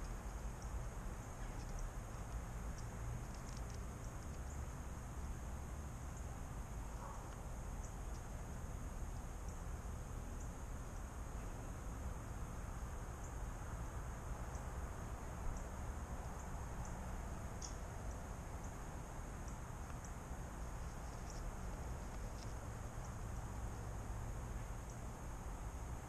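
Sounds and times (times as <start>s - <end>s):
low outdoor rumble: 0.0s - 26.0s
small birds chipping: 0.0s - 26.0s.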